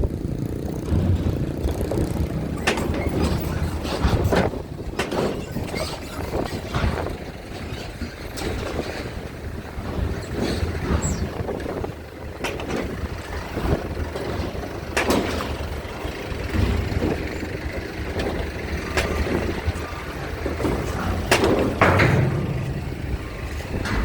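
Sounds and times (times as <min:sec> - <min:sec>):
heavy vehicle engines rumbling: 0:00.0 - 0:24.0
sharp metal knocks and clanks: 0:00.8 - 0:11.8, 0:12.4 - 0:24.0.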